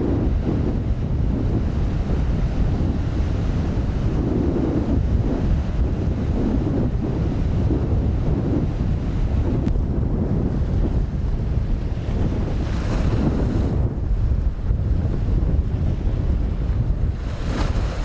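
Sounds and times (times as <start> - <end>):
wind buffeting microphone: 0.0 - 18.0
rough sea waves: 0.1 - 18.0.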